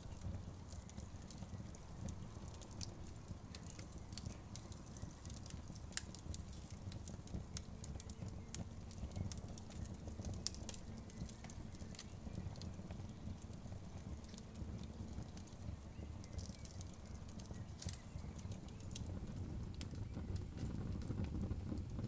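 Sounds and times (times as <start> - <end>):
burning logs popping and snapping: 0.0 - 22.0
low rumble of flames: 0.0 - 22.0.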